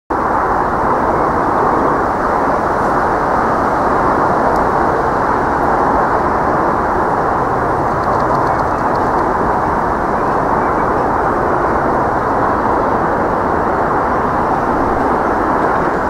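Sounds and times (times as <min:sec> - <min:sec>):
diesel locomotive engine working hard: 0:00.1 - 0:16.0.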